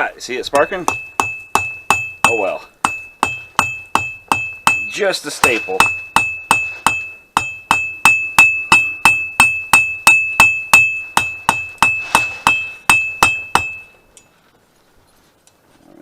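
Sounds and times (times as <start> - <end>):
hammer striking steel on anvil: 0.6 - 14.0.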